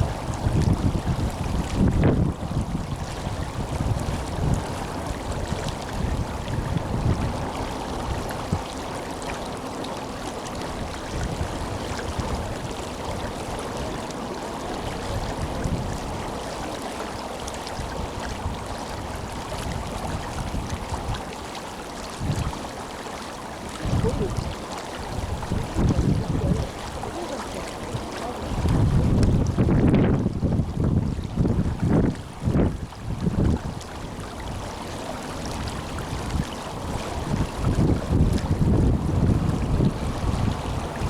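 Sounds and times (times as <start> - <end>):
wind buffeting microphone: 0.0 - 21.4, 22.1 - 41.0
river water rushing: 0.0 - 41.0.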